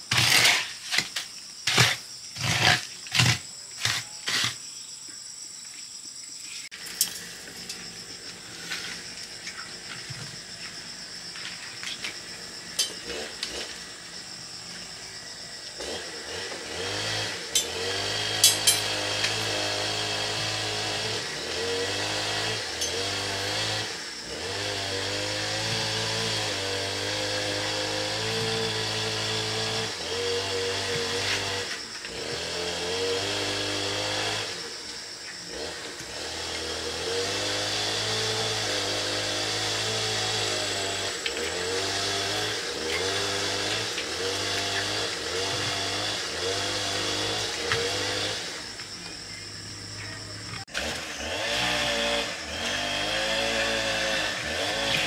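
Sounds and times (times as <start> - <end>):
small engine tool running: 6.8 - 55.0.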